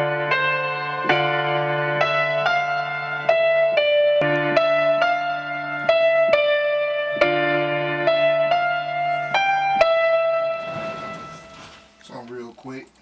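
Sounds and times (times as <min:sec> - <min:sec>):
digital piano chords: 0:00.0 - 0:12.5.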